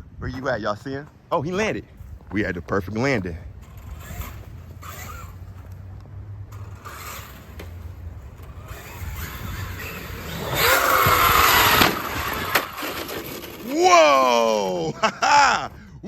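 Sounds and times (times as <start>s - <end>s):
rc truck tyres and electric motor: 1.9s - 14.9s.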